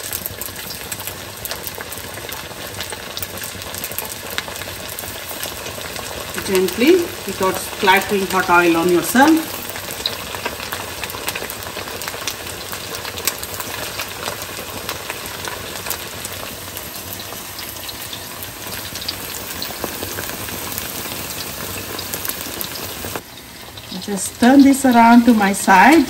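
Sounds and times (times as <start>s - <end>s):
chicken deep-frying in oil: 0.0s - 26.0s.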